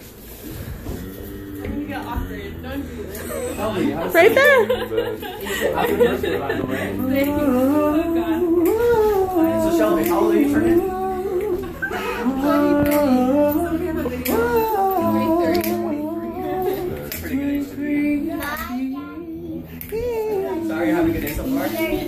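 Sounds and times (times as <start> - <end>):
person singing unaccompanied: 0.8 - 22.0.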